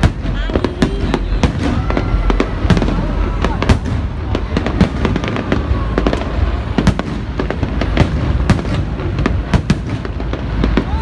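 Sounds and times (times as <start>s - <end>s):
constant low rumble: 0.0s - 11.0s
firework bangs and crackles: 0.0s - 11.0s.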